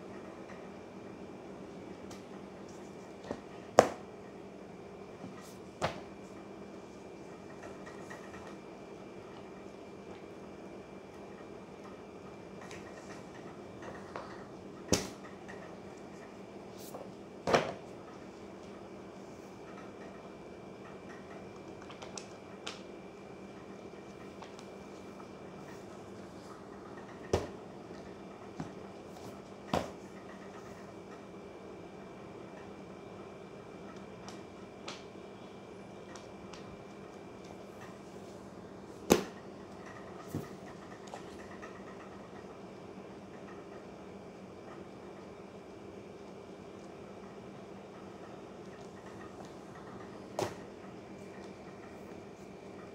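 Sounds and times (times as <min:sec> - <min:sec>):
low room hum: 0:00.0 - 0:52.9.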